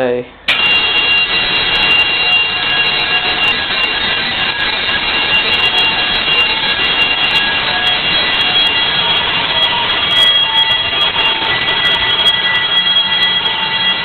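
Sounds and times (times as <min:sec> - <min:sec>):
fire alarm bells ringing: 0:00.5 - 0:14.0.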